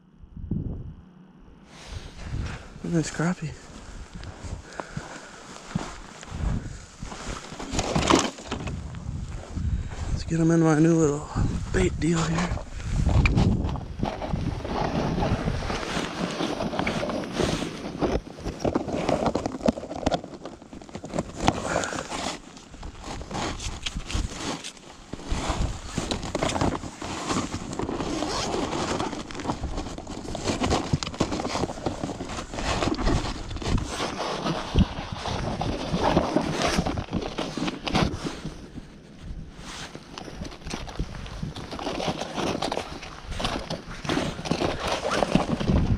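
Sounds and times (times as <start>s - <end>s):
winter clothing rustling: 1.7s - 45.9s
knocks and crackles: 3.5s - 9.6s, 11.3s - 38.8s, 39.8s - 45.9s.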